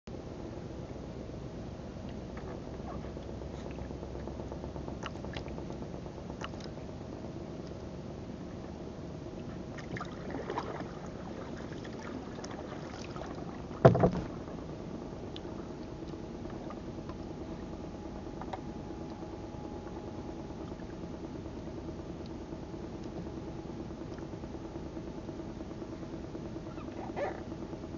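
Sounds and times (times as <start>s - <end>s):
steady low background noise: 0.1s - 27.9s.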